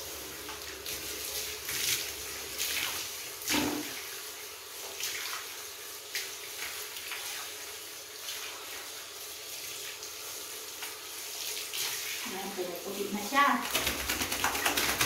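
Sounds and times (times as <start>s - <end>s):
shower water running on tiles: 0.0s - 15.0s
water splashes: 0.5s - 15.0s.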